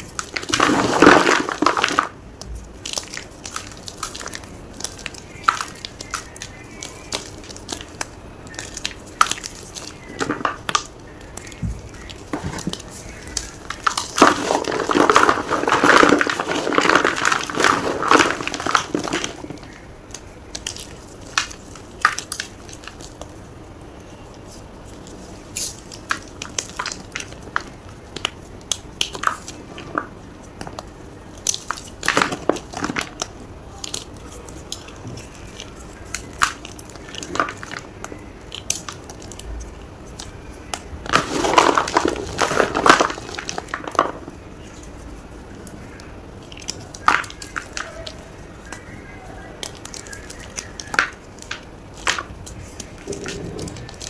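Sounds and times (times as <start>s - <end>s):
chalk blocks crunching: 0.0s - 23.4s, 24.1s - 54.0s.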